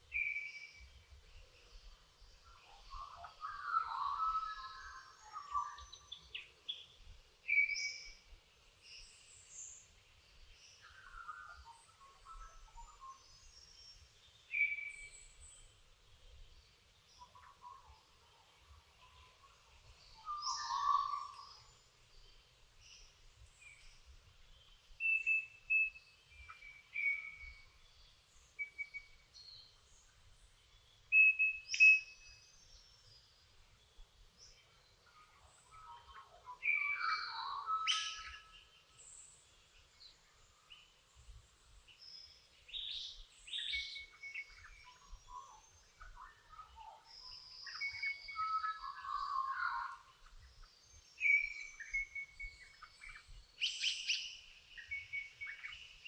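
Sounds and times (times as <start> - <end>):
songbirds whistling and chirping: 0.0 - 41.2, 41.8 - 56.0.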